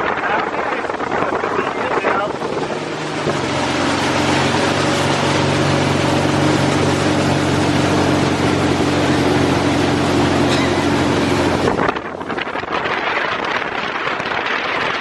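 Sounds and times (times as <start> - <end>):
engine running: 0.0 - 15.0
loud rushing noise: 0.6 - 15.0.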